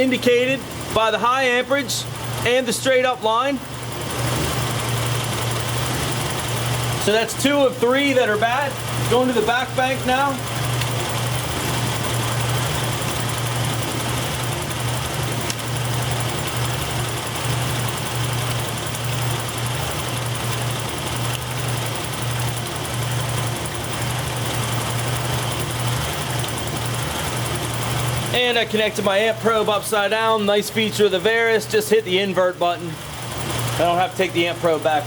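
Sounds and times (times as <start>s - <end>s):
car engine idling roughly: 0.0s - 35.0s.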